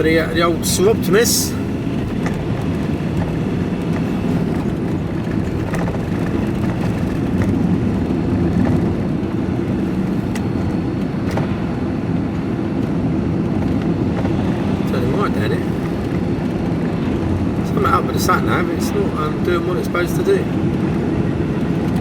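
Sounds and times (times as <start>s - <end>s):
van engine and road rumble: 0.0s - 22.0s.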